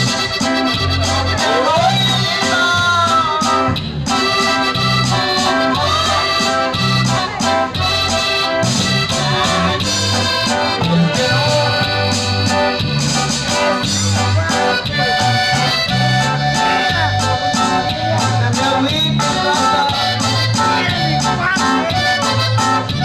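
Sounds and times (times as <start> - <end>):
accordion dance music: 0.0 - 23.0
bass line: 0.0 - 23.0.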